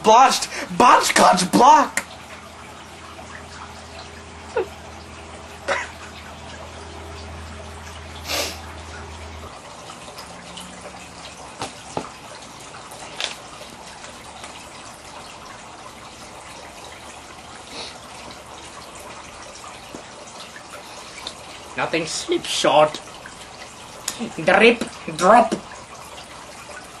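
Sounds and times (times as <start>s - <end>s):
water trickling: 0.0s - 27.0s.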